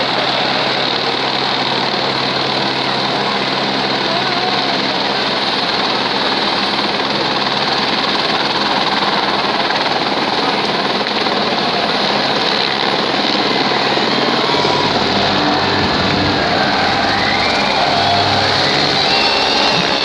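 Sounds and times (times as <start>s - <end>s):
helicopter rotor and engine: 0.0s - 20.0s.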